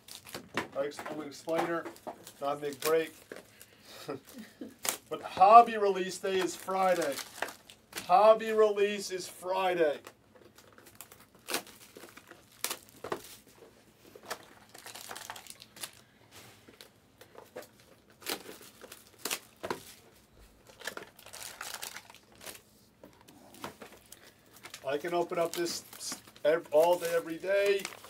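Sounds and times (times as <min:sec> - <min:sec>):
foil packs crinkling: 0:00.0 - 0:08.6, 0:09.2 - 0:28.0.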